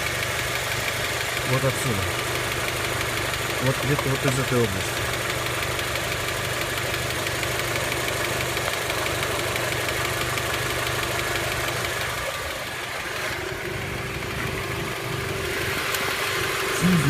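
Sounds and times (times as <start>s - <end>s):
car engine idling: 0.0s - 17.0s
rapid engine clicking: 0.0s - 17.0s.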